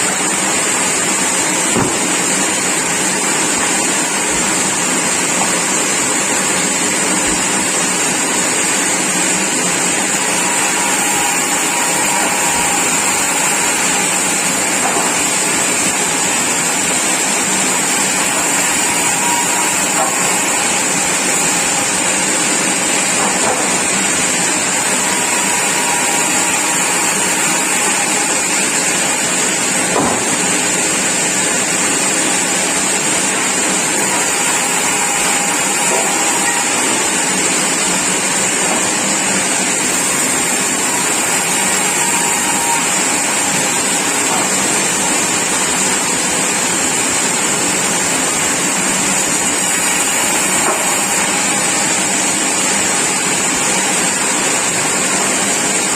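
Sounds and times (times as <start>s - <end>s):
sawmill machinery running: 0.0s - 55.9s.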